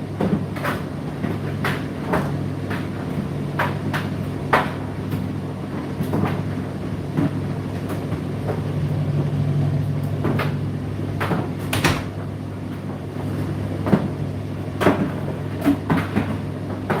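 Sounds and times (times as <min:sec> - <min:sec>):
tumble dryer motor hum: 0:00.0 - 0:17.0.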